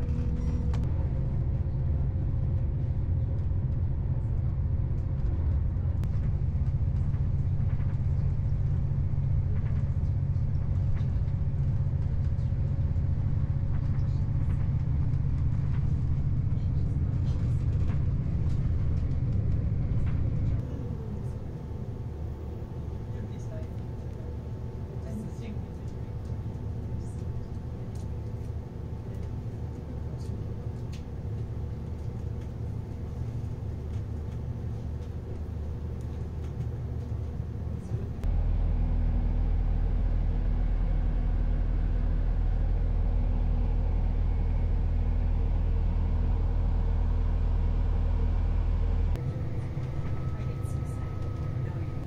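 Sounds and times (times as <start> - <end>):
train rumble from inside carriage: 0.0 - 52.0.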